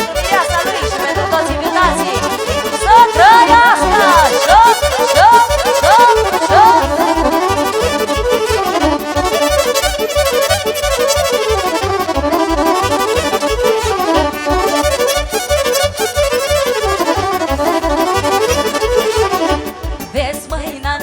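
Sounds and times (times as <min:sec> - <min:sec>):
accordion dance melody: 0:00.0 - 0:21.0
bass and drum beat: 0:00.0 - 0:21.0.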